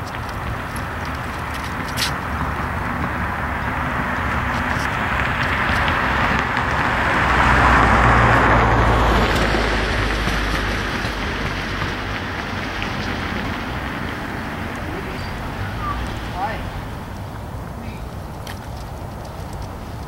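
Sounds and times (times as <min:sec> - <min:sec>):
tyres hissing on wet pavement: 0:00.0 - 0:20.0
vehicle passing: 0:00.0 - 0:20.0.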